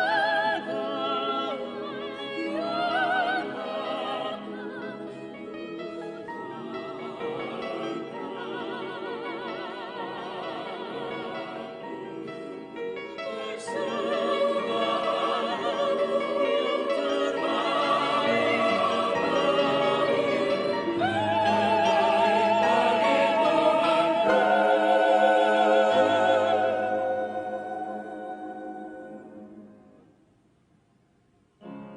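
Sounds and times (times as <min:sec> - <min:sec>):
operatic singing with vibrato: 0:00.0 - 0:29.7
musical accompaniment: 0:00.0 - 0:30.2.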